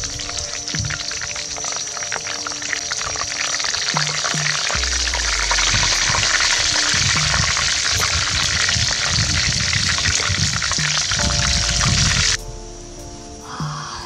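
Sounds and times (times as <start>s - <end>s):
chicken sizzling in hot oil: 0.0s - 12.4s.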